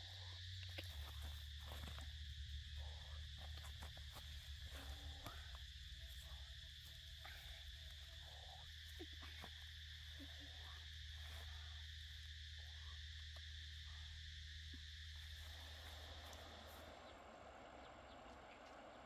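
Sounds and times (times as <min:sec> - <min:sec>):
insects chirring: 0:00.0 - 0:19.0
low steady hum: 0:00.0 - 0:19.0.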